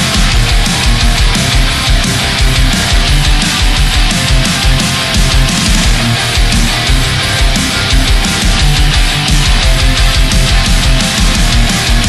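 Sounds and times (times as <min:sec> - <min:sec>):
electric guitar: 0:00.0 - 0:12.0
fast low drum beat: 0:00.0 - 0:12.0.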